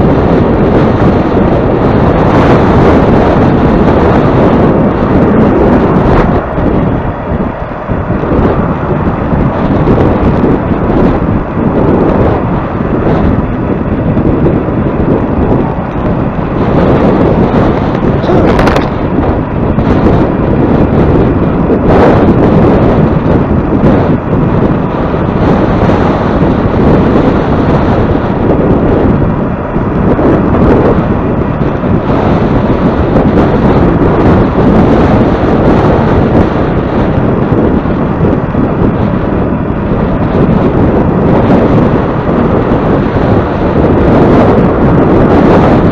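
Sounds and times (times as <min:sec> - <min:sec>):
strong wind buffeting microphone: 0:00.0 - 0:45.9.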